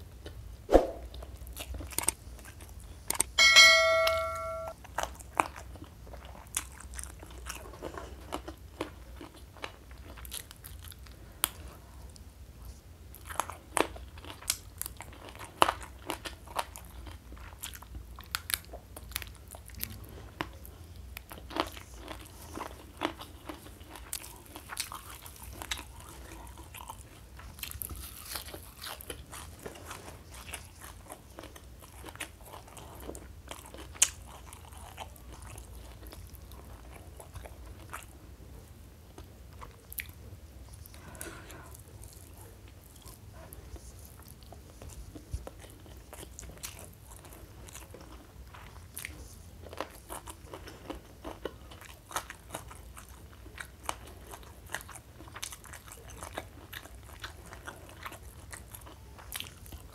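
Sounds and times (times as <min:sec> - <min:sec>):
chewing and crunching food: 0:01.1 - 0:03.4, 0:04.7 - 0:59.9.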